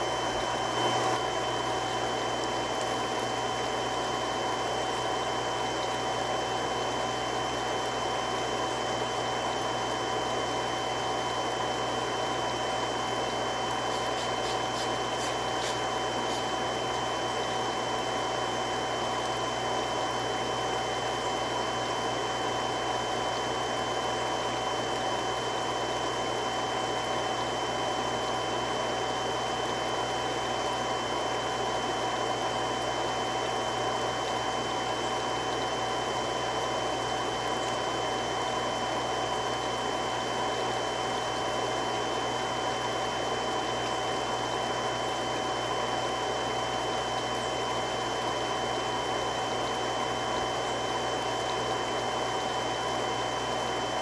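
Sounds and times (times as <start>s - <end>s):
water pump humming and whining: 0.0s - 54.0s.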